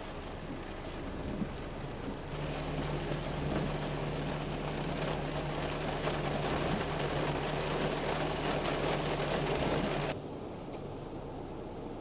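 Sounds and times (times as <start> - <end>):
traffic hiss on wet road: 0.0 - 10.2.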